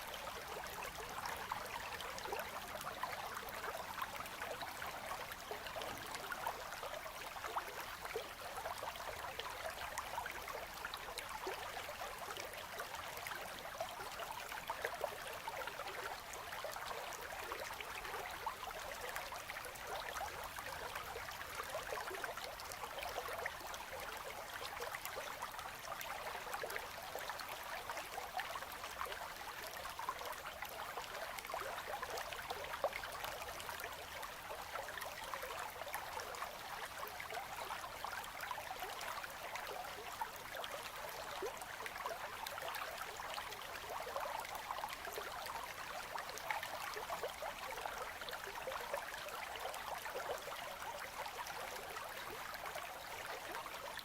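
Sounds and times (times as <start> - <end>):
river water babbling and trickling: 0.0 - 54.0.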